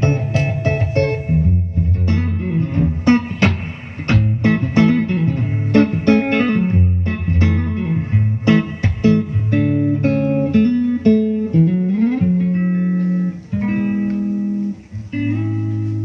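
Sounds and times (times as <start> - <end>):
bass line: 0.0 - 14.4
guitar playing: 0.0 - 16.0.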